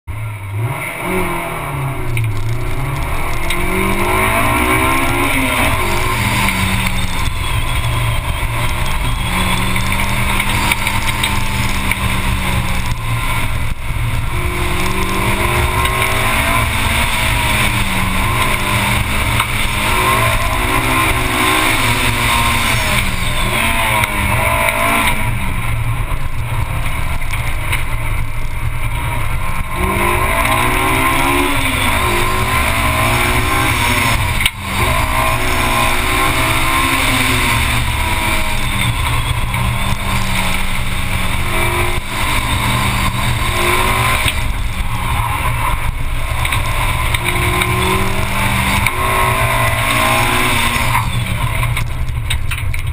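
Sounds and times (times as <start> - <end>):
car engine revving: 0.0 - 52.9
wind and road noise: 0.1 - 52.9.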